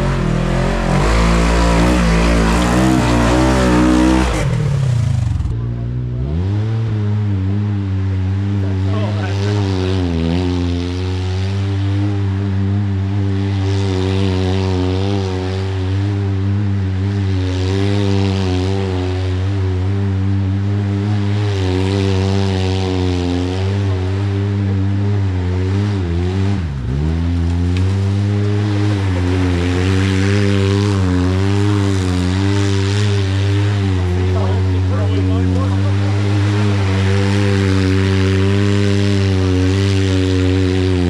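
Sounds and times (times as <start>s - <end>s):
off-road vehicle engine running: 0.0s - 41.0s.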